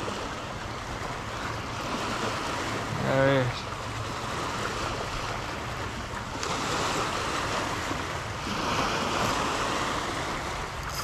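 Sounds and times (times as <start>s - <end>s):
waves splashing over rocks: 0.0s - 11.0s
wind rumbling on microphone: 0.0s - 11.0s.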